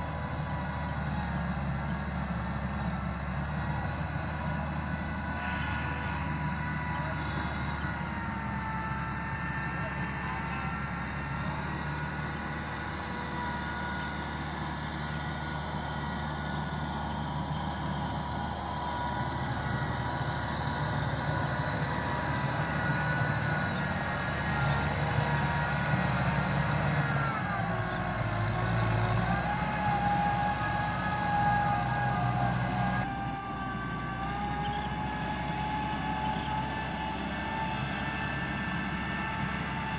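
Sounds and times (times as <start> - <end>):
tractor diesel engine under load: 0.0 - 39.9
whining tone: 0.0 - 39.9.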